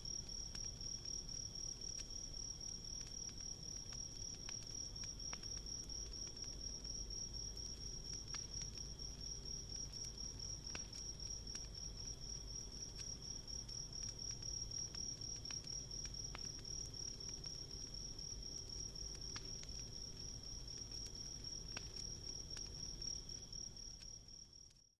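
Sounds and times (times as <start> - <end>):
crickets trilling: 0.0 - 24.7
campfire crackling and popping: 0.0 - 24.8.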